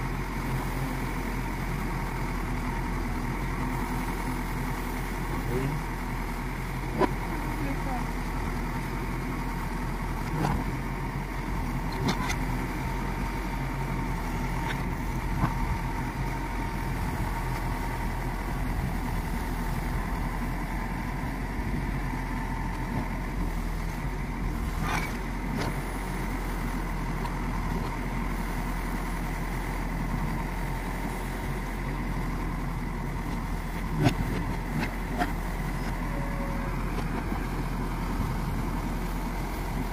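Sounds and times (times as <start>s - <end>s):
constant engine whine: 0.0s - 39.9s
diesel engine running: 0.0s - 39.9s.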